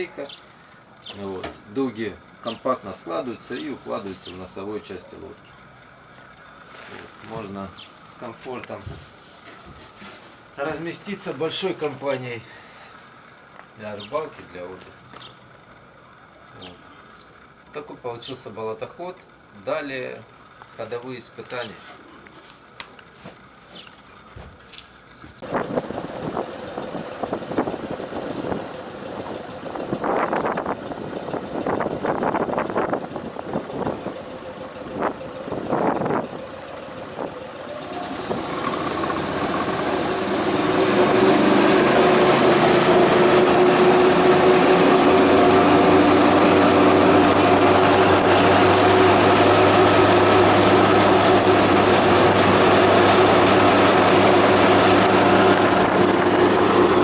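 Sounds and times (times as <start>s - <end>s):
boat motor revving: 0.0s - 25.4s, 34.8s - 57.0s.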